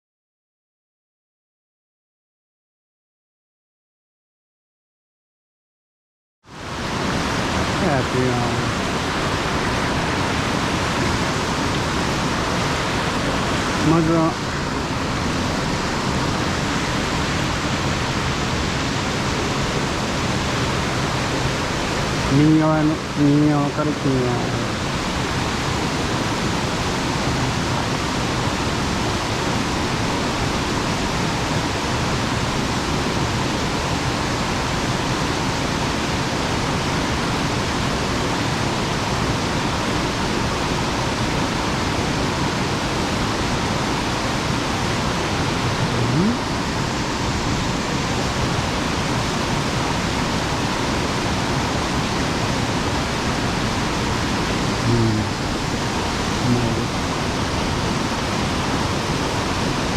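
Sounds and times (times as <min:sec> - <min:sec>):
water rushing over a dam: 0:06.5 - 0:59.9.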